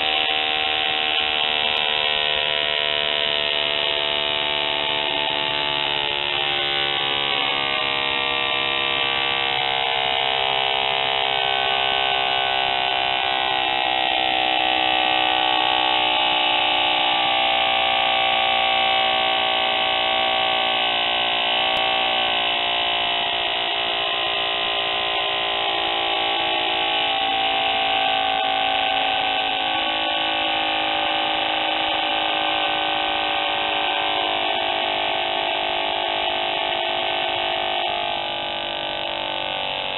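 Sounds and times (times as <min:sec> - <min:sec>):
model motor high buzz: 0:00.0 - 0:39.9.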